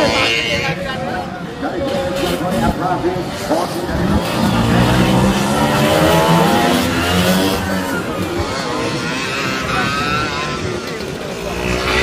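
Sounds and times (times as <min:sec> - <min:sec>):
scooter engines revving: 0:00.0 - 0:12.0.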